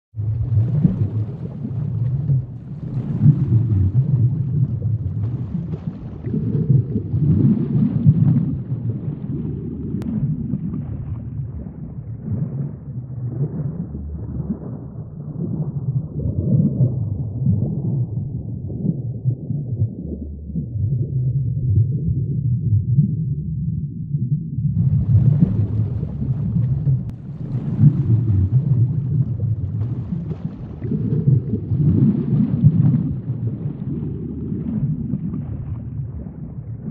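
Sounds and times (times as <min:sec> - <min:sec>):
muffled underwater sea rumble: 0:00.1 - 0:36.9.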